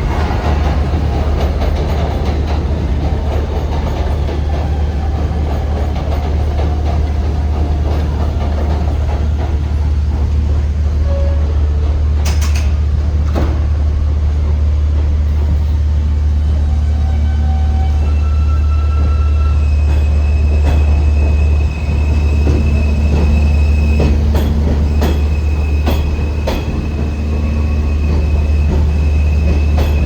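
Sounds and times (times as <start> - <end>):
subway train rumbling on track: 0.0 - 30.0.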